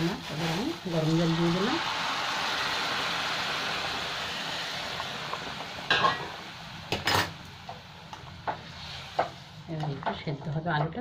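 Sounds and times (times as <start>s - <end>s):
water sizzling in hot pan: 0.0s - 10.8s.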